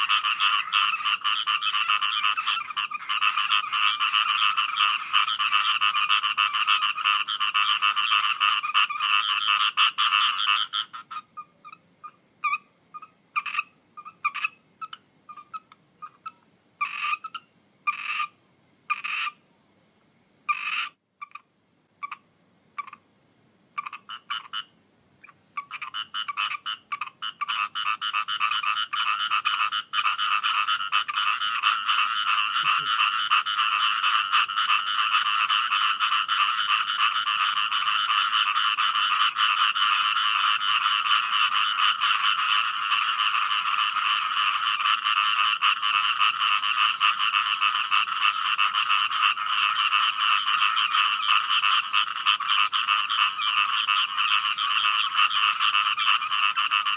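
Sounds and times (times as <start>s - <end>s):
frogs croaking: 0.0s - 56.9s.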